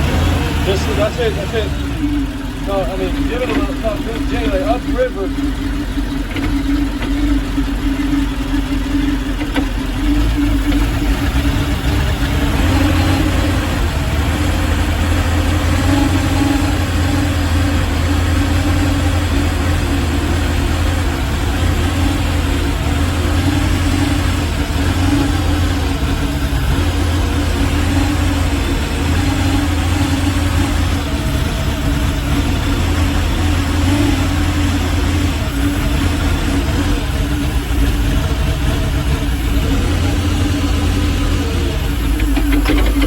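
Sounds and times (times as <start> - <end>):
car engine rough idle: 0.0 - 43.0.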